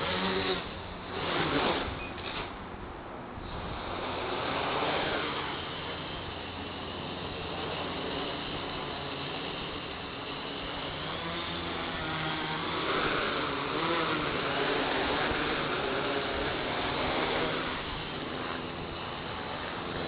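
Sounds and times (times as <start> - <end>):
quadcopter motors buzzing: 0.0 - 20.0.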